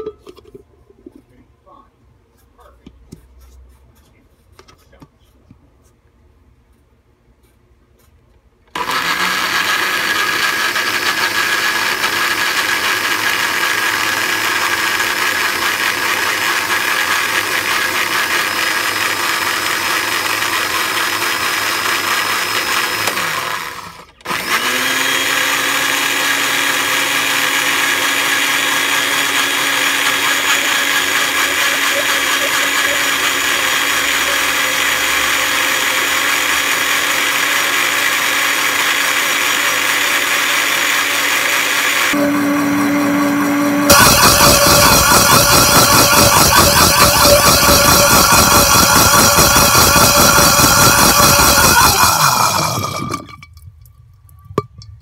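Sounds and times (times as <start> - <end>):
blender running: 8.7 - 53.3.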